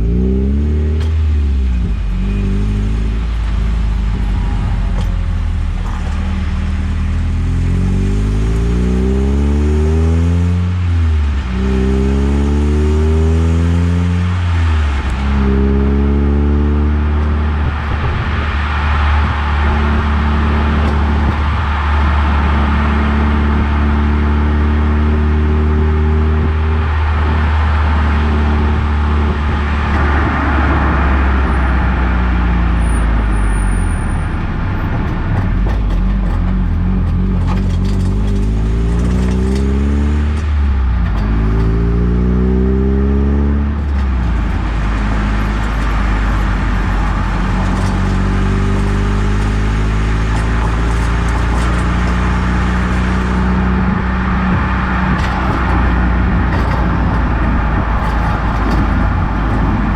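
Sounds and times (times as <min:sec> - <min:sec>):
car engine accelerating: 0:00.0 - 0:59.9
road noise: 0:00.0 - 0:59.9
suspension clunk: 0:00.0 - 0:59.9
suspension rattle: 0:00.0 - 0:59.9.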